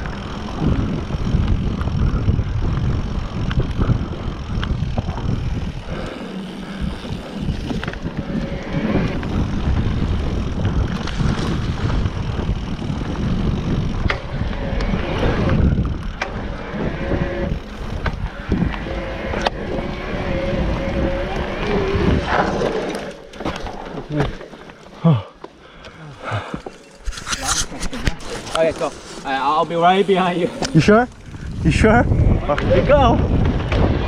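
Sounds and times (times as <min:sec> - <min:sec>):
wind buffeting microphone: 0:00.0 - 0:24.4, 0:29.5 - 0:34.0
bike rattling over bumps: 0:00.0 - 0:34.0.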